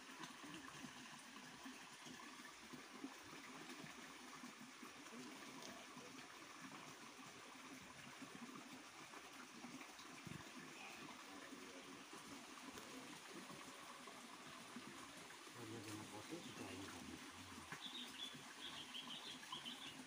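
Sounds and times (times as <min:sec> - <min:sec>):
faint stream trickling: 0:00.0 - 0:20.0.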